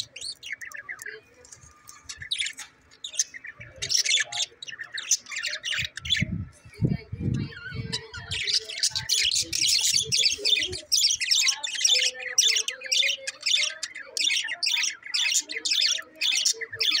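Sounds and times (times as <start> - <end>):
budgerigars chattering: 0.0 - 1.2, 1.8 - 6.3, 7.4 - 17.0.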